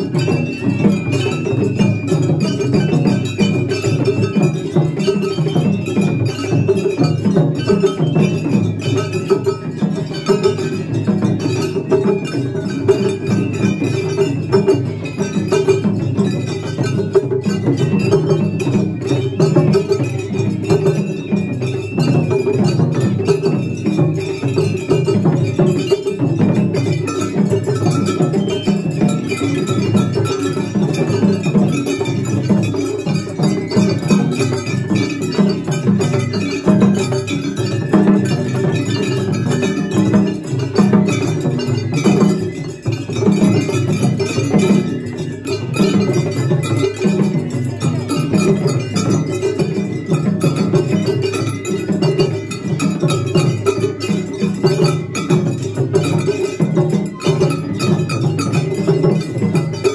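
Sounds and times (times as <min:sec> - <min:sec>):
taiko drums beating: 0:00.0 - 0:59.9.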